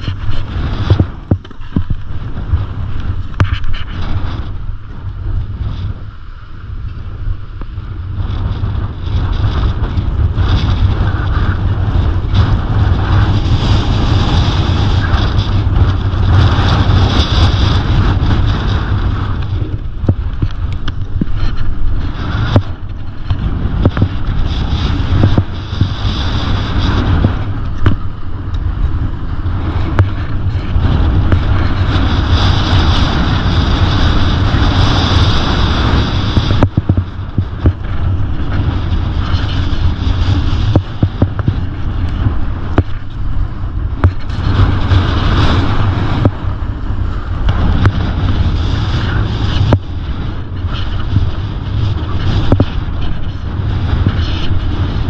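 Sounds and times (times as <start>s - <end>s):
skis scraping on snow: 0.0s - 55.0s
wind buffeting microphone: 0.0s - 55.0s.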